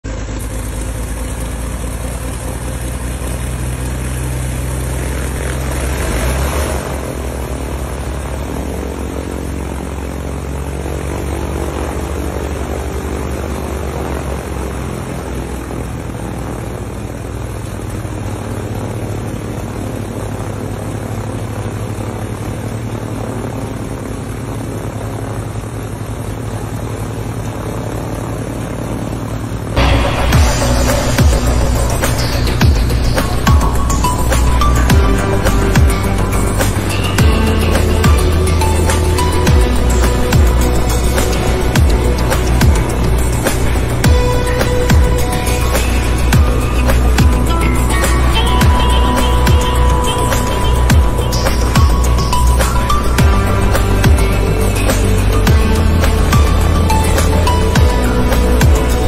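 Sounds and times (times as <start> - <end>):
propeller plane engines droning: 0.0 - 59.0
rush of noise: 0.0 - 59.0.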